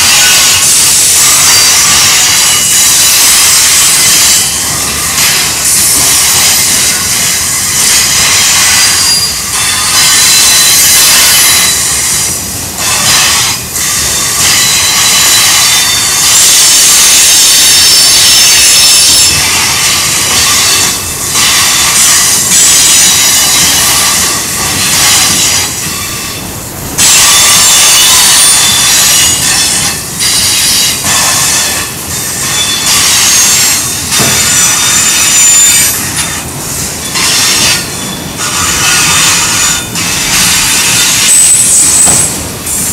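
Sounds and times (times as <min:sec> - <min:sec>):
rumble of wheels on track: 0:00.0 - 0:42.9
train wheels squealing on rail: 0:00.0 - 0:42.9.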